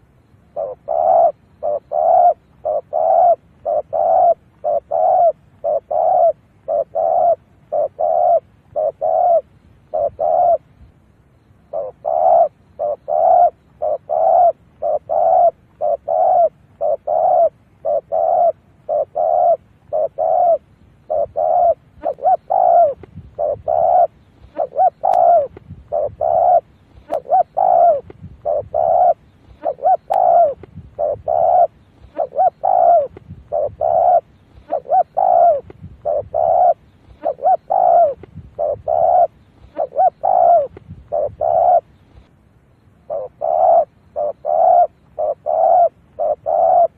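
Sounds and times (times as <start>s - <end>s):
dove cooing: 0.0s - 10.9s, 11.6s - 42.3s, 43.0s - 46.9s.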